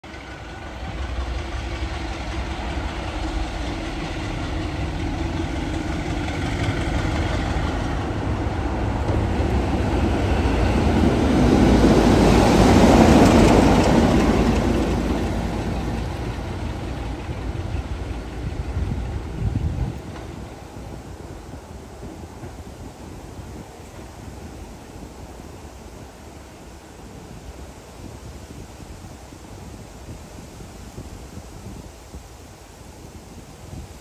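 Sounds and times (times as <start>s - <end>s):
diesel locomotive passing: 0.0s - 34.0s.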